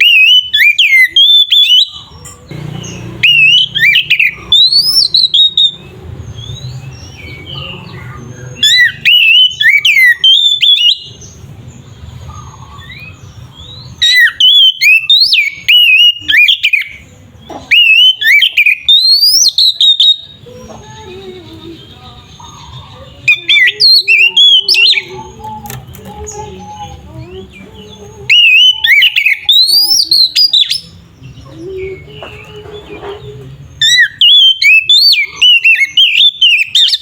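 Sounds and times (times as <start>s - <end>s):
magpie-robin singing: 0.0s - 37.0s.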